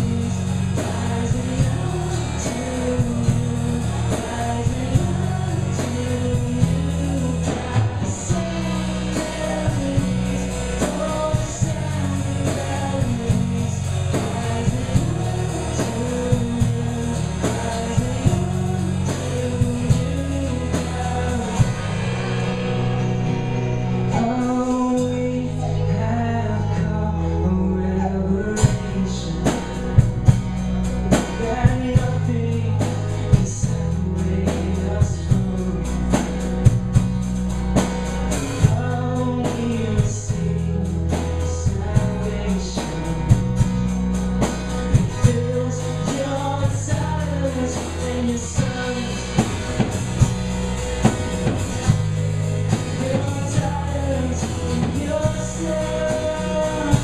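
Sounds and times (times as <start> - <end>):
drum kit beat: 0.0 - 25.6, 28.4 - 57.0
rock band playing: 0.0 - 57.0.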